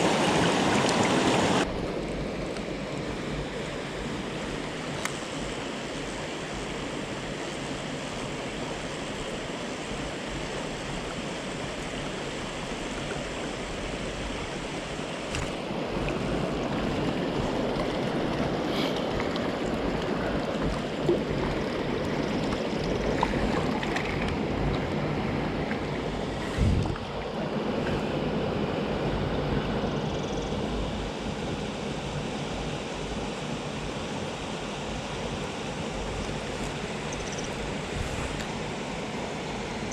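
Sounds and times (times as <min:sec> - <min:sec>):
stream water running over rocks: 0:00.0 - 0:28.2, 0:34.6 - 0:39.9.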